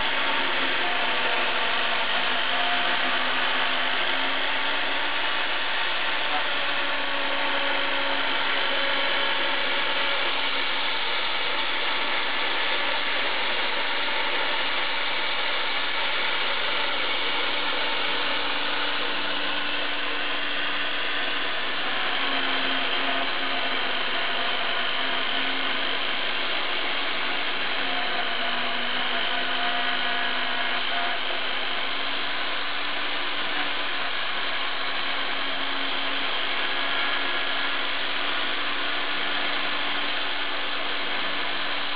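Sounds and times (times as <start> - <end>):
router spindle running: 0.0 - 41.9.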